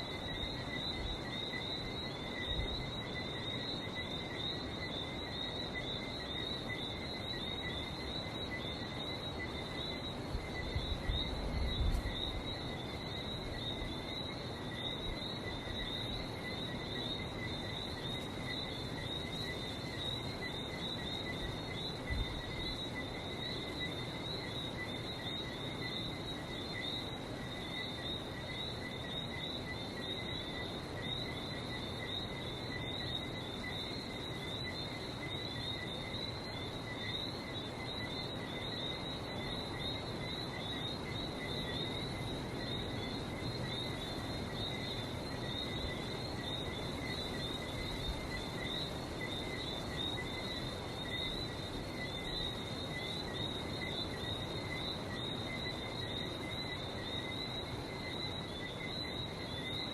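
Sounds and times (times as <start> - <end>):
frogs chirping whistles: 0.0 - 59.9.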